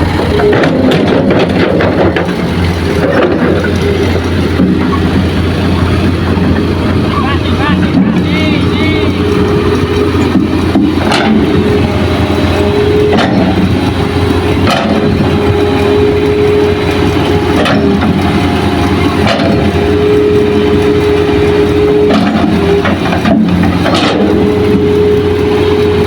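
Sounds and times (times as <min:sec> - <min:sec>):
excavator diesel engine running: 0:00.0 - 0:26.0
hydraulic whine: 0:00.0 - 0:26.0.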